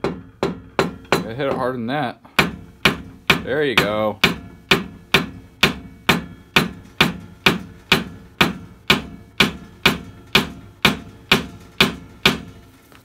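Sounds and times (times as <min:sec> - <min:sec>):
hammer tapping on wood: 0:00.0 - 0:01.7, 0:02.4 - 0:12.5.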